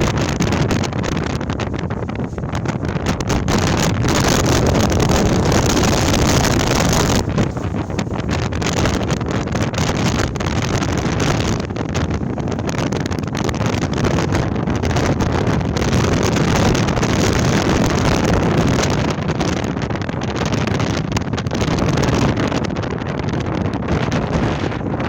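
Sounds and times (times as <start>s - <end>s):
gale-force wind buffeting microphone: 0.0s - 25.0s.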